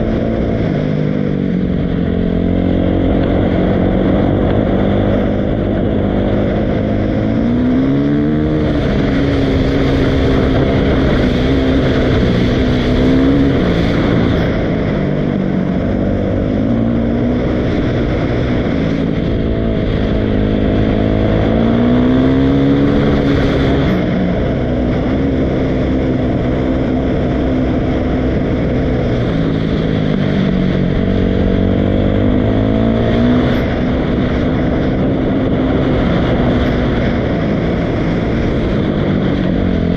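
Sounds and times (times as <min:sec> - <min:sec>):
dirt bike engine revving: 0:01.7 - 0:39.9.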